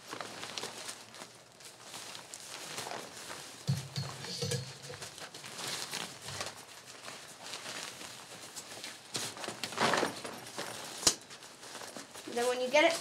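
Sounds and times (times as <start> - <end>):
tent fabric rustling: 0.0 - 13.0.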